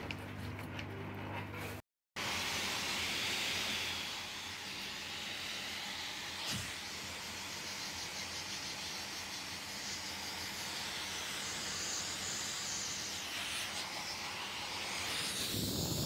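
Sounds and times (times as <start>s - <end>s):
blow dryer blowing air: 2.2s - 16.0s.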